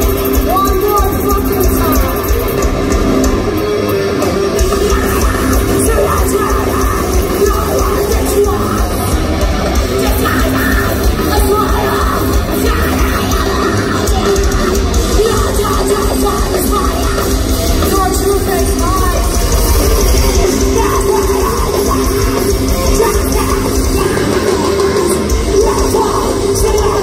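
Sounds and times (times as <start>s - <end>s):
bass guitar: 0.0s - 27.0s
drums: 0.0s - 27.0s
electric guitar: 0.0s - 27.0s
woman yelling and singing: 0.3s - 2.3s, 4.6s - 9.1s, 9.8s - 27.0s.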